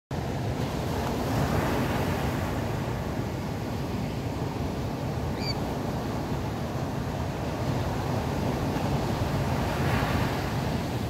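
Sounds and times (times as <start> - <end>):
surf washing up a beach: 0.1 - 11.0
wind rumble on microphone: 0.2 - 11.0.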